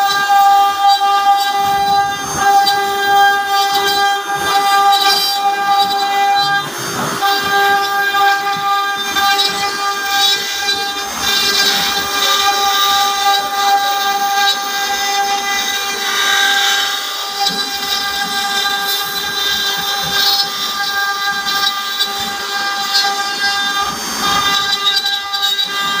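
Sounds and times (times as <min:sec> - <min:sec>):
router spindle whining: 0:00.0 - 0:26.0.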